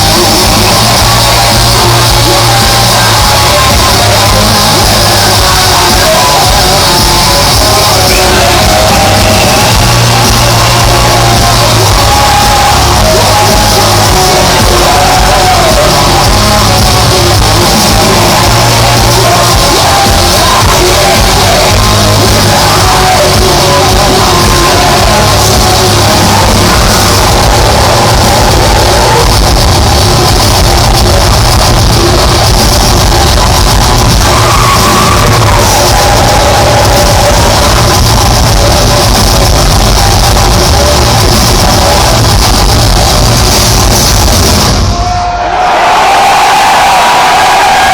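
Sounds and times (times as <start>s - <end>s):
shouted vocals: 0.0s - 43.4s, 44.7s - 47.9s
distorted electric guitars: 0.0s - 47.9s
drums: 0.0s - 47.9s.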